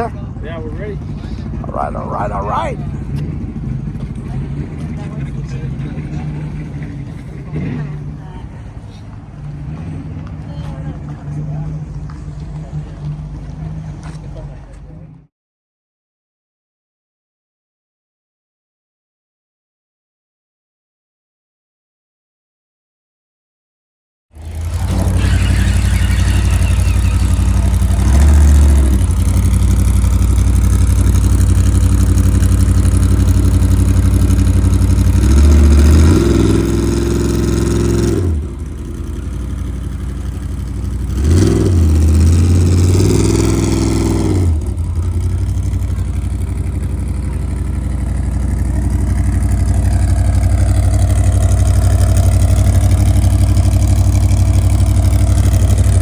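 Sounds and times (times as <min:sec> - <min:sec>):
engine idling and revving: 0:00.0 - 0:15.3, 0:24.4 - 0:56.0.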